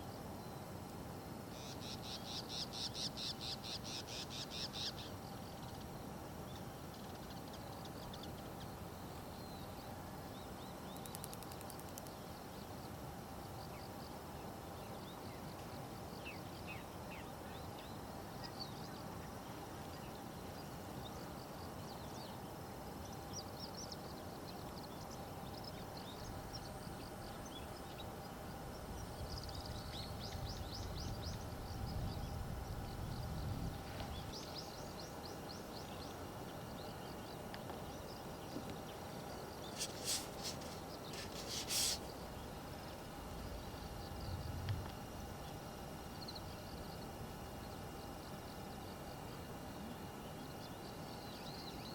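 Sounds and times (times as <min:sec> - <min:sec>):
steady background hum: 0:00.0 - 0:51.9
small birds chirping: 0:01.5 - 0:51.9.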